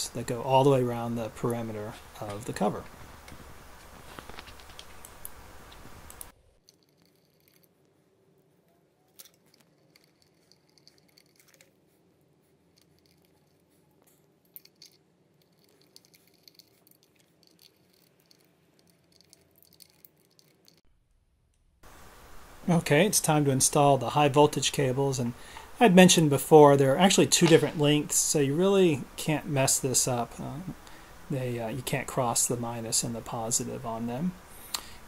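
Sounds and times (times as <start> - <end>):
background hiss: 0.0 - 20.8, 21.8 - 35.0.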